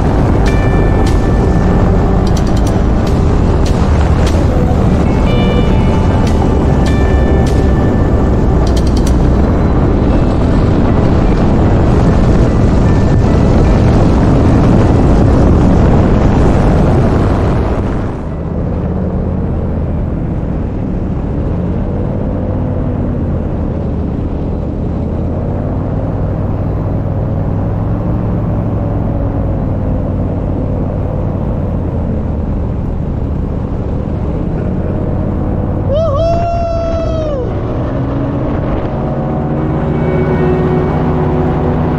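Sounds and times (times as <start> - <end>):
paramotor engine and propeller: 0.0 - 36.2
wind buffeting microphone: 0.0 - 41.9.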